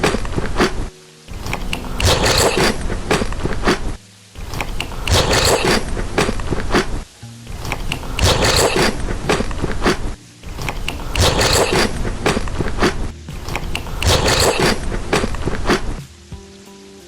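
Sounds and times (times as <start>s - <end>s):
crunchy chewing of crisp food: 0.0s - 7.0s, 7.6s - 16.0s.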